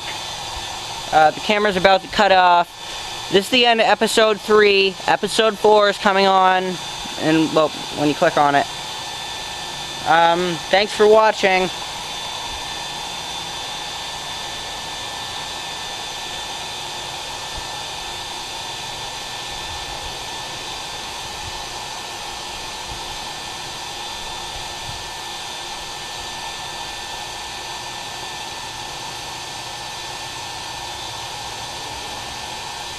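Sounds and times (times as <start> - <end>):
forge rushing with high whine: 0.0 - 32.9.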